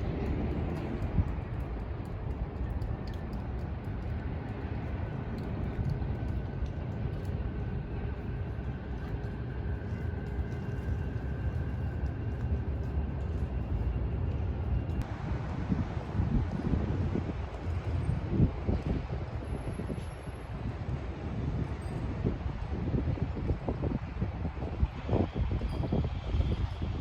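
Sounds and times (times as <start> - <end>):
low rumble of city noise: 0.0 - 27.0.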